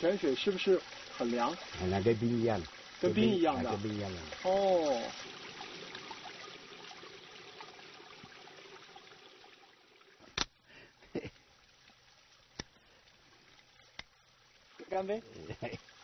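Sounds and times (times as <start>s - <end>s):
water trickling over cans: 0.0s - 16.0s.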